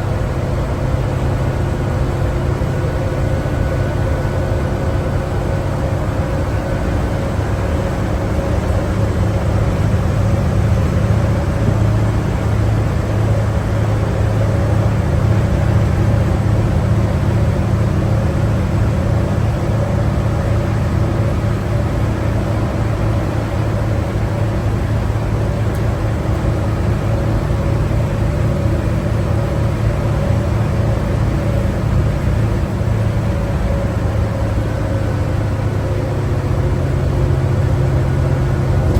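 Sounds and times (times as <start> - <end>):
bus engine drone: 0.0 - 38.9
road and tyre noise: 0.0 - 38.9.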